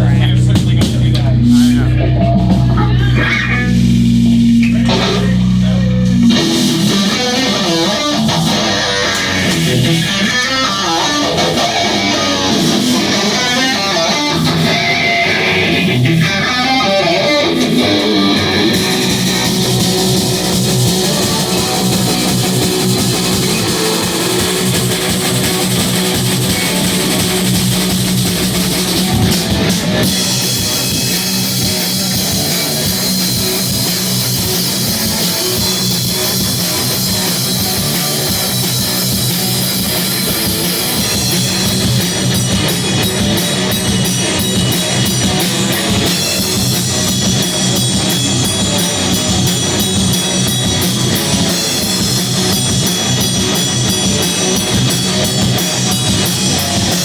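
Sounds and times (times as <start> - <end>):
cymbals struck in steady beat: 0.0 - 7.5, 18.6 - 57.0
heavy rock band playing: 0.0 - 57.0.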